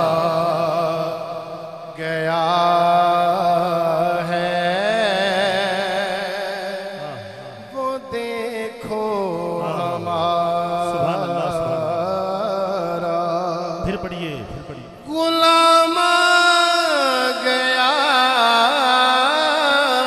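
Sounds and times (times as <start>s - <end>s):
man singing devotional song: 0.0s - 20.0s.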